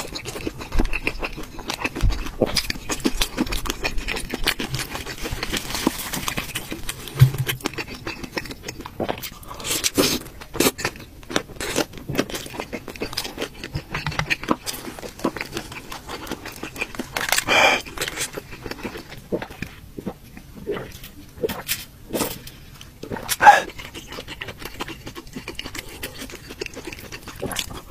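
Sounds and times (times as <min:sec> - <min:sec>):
person chewing noodles: 0:00.0 - 0:27.9.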